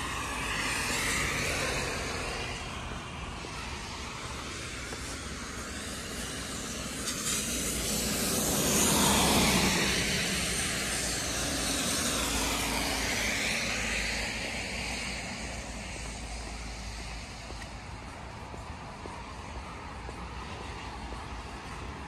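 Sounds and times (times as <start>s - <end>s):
tyres hissing on wet road: 0.0s - 22.0s.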